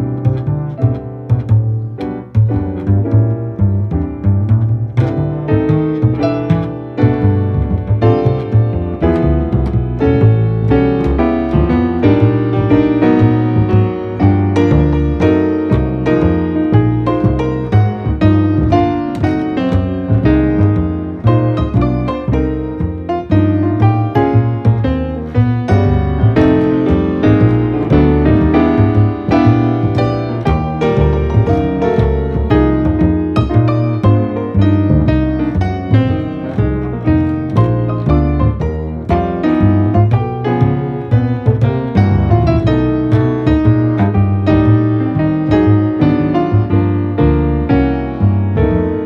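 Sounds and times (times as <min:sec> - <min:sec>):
piano music with bass: 0:00.0 - 0:49.0.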